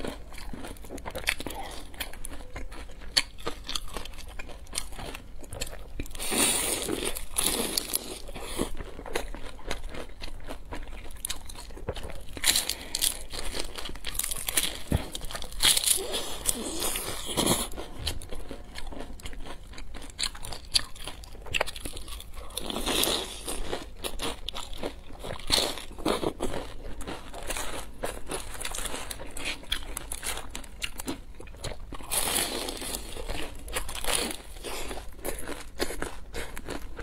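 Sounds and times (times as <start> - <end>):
chewing: 0.0 - 37.0.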